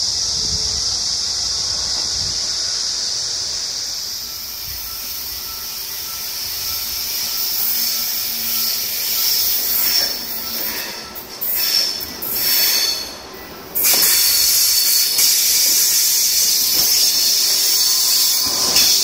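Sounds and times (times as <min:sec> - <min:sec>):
train wheels hissing on track: 0:00.0 - 0:19.0
high wheel squeal: 0:03.8 - 0:19.0.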